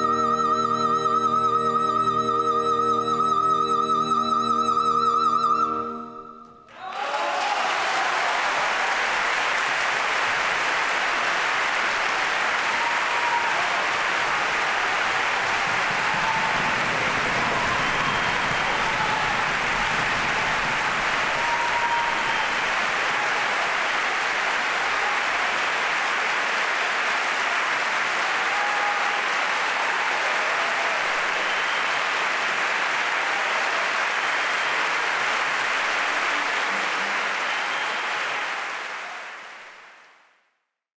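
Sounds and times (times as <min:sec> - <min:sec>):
audience applauding: 0:06.4 - 0:40.3.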